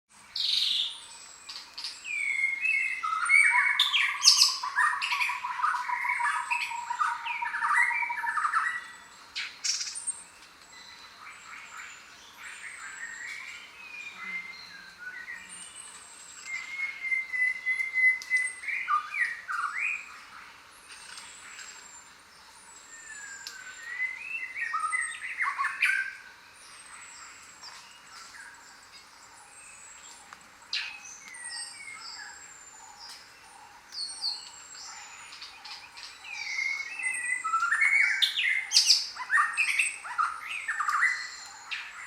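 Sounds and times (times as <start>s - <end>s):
birds chirping and squawking: 0.4s - 42.0s.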